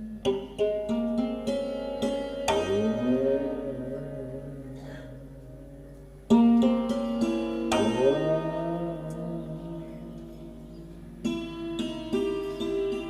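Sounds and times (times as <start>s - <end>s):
plucked string instrument: 0.0s - 13.0s.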